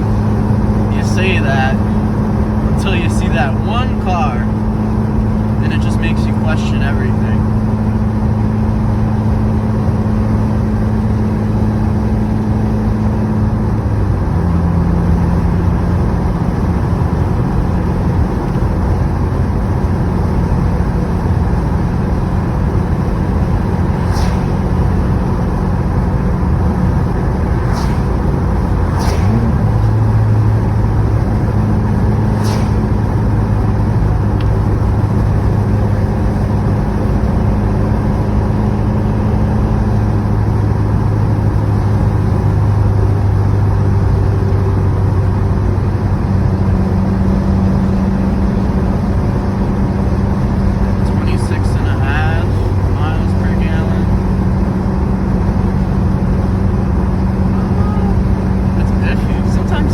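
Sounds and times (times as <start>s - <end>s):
car engine cruising from inside: 0.0s - 59.9s.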